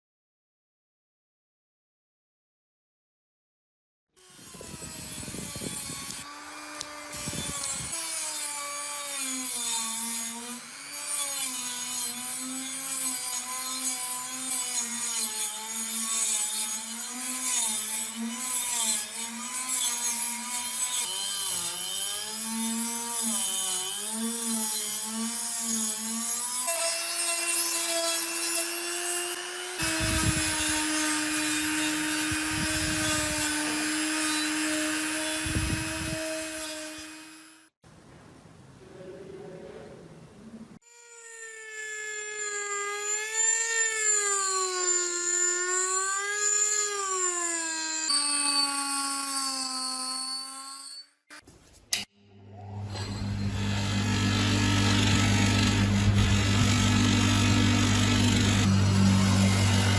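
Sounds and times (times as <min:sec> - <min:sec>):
electric power tool abrading: 0:04.2 - 0:37.8, 0:40.8 - 0:51.0, 0:52.4 - 0:59.9.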